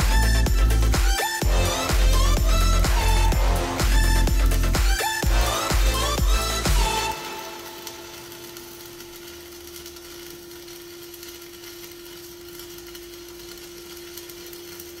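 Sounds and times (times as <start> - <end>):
welding arc crackling hiss: 0.0 - 15.0.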